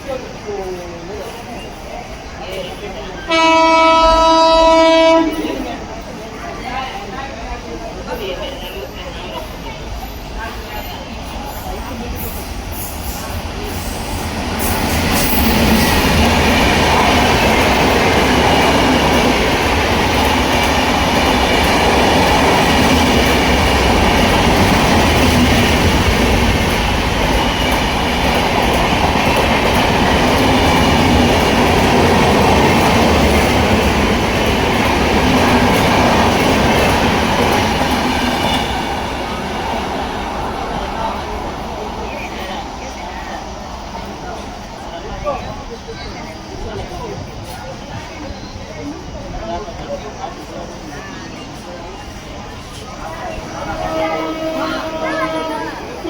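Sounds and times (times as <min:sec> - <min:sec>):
train wheels clattering on rails: 0:08.1 - 0:56.0.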